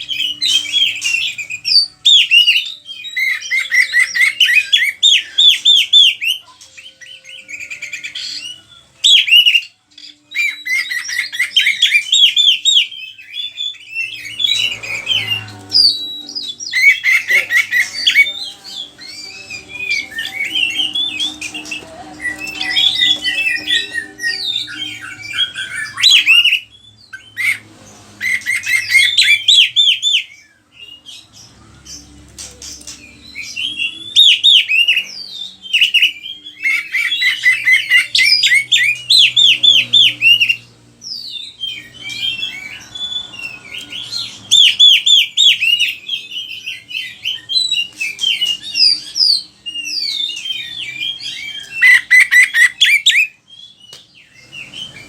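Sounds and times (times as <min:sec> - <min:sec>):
magpie-robin singing: 0:00.0 - 0:55.0.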